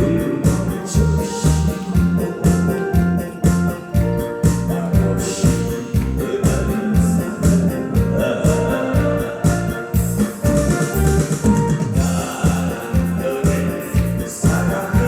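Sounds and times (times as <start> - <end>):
electronic keyboard organ music: 0.0 - 15.0
steady beat and bass line: 0.0 - 15.0.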